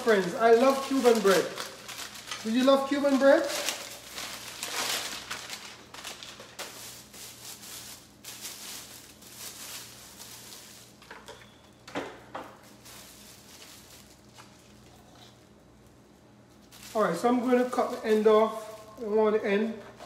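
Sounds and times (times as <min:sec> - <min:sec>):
plastic bag crinkling: 0:00.0 - 0:11.3, 0:12.6 - 0:19.4.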